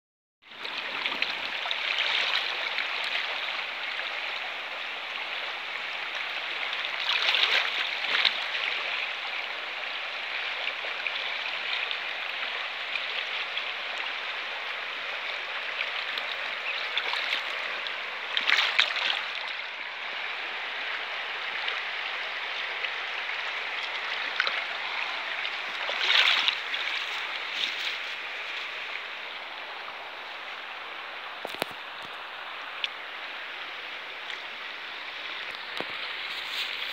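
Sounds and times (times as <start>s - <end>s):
river water rushing: 0.5s - 36.9s.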